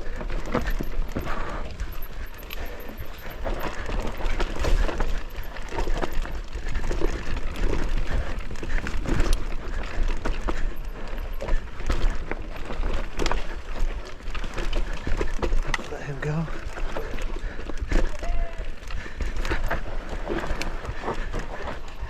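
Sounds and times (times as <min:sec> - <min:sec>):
bike rattles and knocks: 0:00.0 - 0:22.0
tyres scrabbling over dirt: 0:00.0 - 0:22.0.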